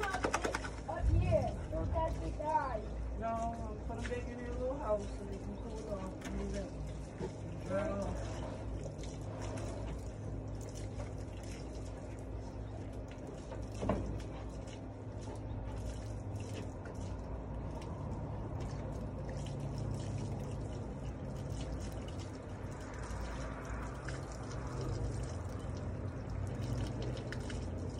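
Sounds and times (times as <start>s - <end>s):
hose water splashing on concrete: 0.0s - 27.9s.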